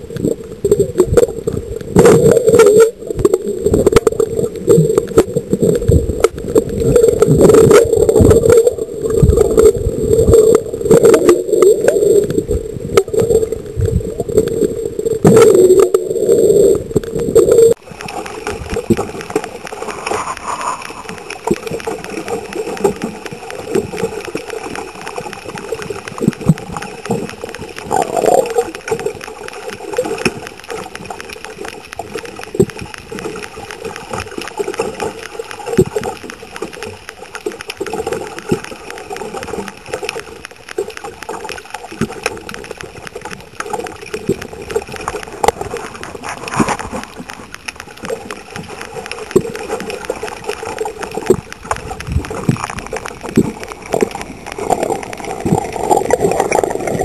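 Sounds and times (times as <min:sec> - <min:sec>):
gurgling water: 0:00.0 - 0:57.0
underwater crackle of small clicks: 0:00.0 - 0:57.0.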